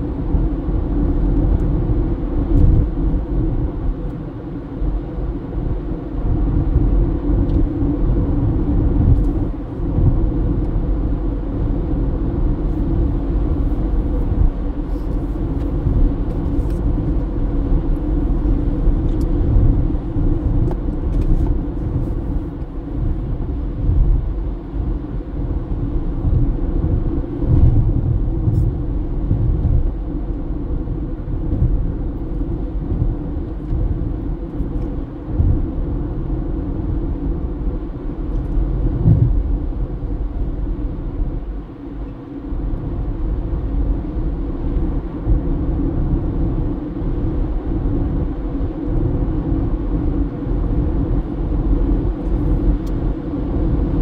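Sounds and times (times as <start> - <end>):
car tyres and engine rumbling: 0.0 - 54.0.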